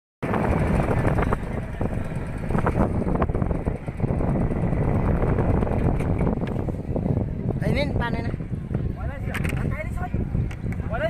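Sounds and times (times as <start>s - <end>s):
outdoor background noise: 0.2s - 11.0s
wind buffeting microphone: 0.2s - 11.0s.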